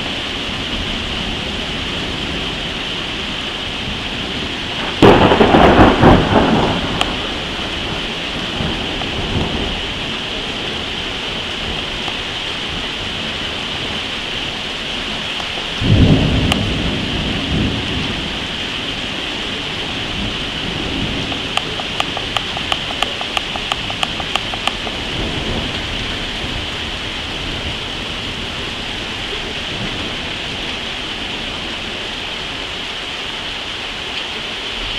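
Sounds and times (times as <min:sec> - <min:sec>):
steady rain: 0:00.0 - 0:34.9
thunder rumbling: 0:00.6 - 0:32.0.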